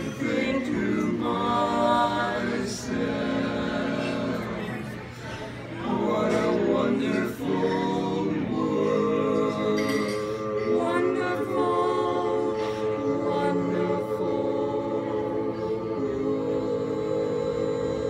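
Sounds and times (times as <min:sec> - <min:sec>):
male vocal quartet singing harmony: 0:00.0 - 0:18.0.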